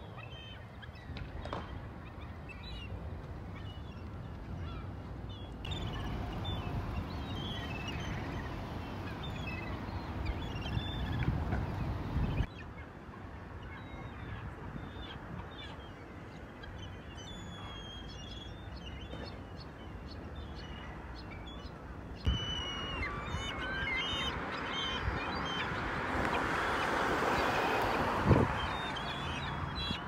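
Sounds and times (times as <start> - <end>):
seagulls calling: 0.0 - 12.8, 13.6 - 30.0.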